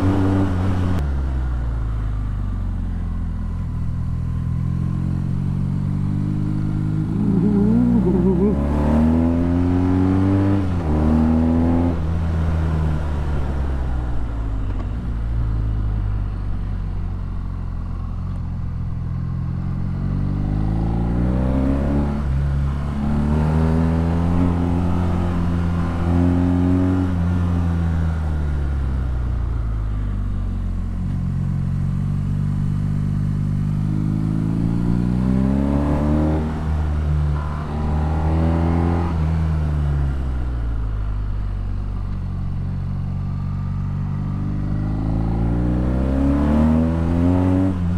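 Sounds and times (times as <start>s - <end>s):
motorcycle engine revving while riding: 0.0s - 1.0s, 2.5s - 13.8s, 17.0s - 40.5s, 41.8s - 47.9s.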